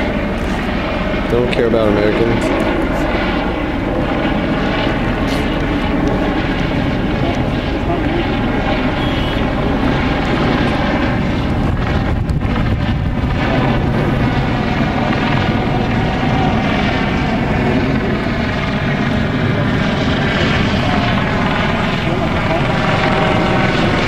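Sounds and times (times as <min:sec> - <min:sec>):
helicopter flying overhead: 0:00.0 - 0:24.0.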